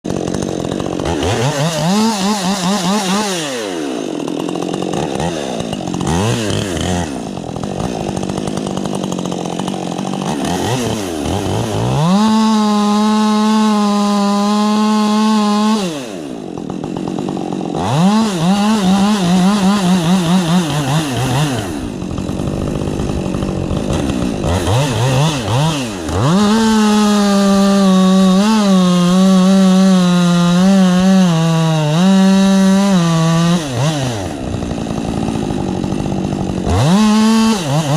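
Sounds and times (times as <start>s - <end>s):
chainsaw revving: 0.0s - 37.9s.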